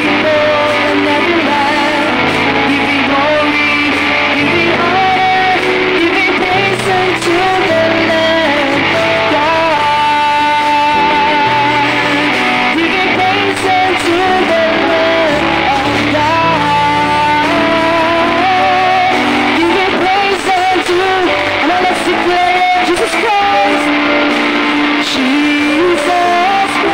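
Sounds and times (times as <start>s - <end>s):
bass guitar: 0.0s - 26.9s
drums: 0.0s - 26.9s
electric guitar: 0.0s - 26.9s
keyboard: 0.0s - 26.9s
person singing: 0.0s - 26.9s.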